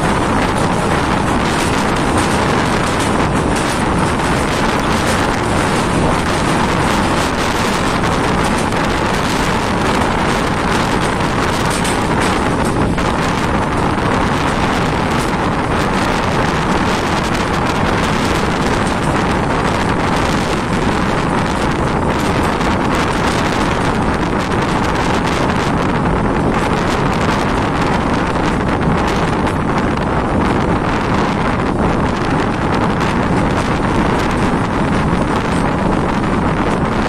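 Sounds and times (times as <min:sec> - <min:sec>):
train coaches rumbling: 0:00.0 - 0:37.0
wind buffeting microphone: 0:00.0 - 0:37.0.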